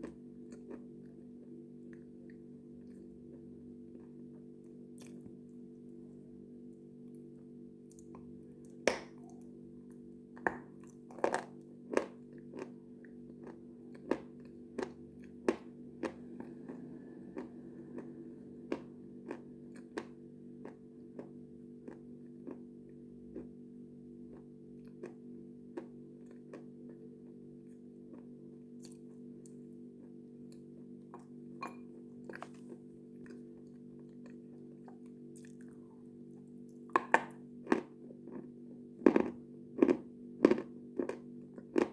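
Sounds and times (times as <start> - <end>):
person chewing with crisp crunches: 0.0 - 41.9
steady low hum: 0.0 - 41.9.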